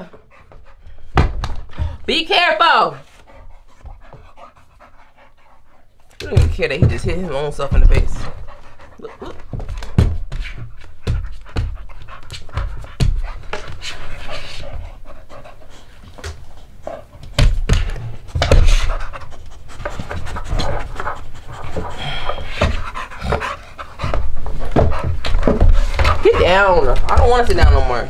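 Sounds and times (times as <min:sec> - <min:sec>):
dog panting: 0:00.0 - 0:28.0.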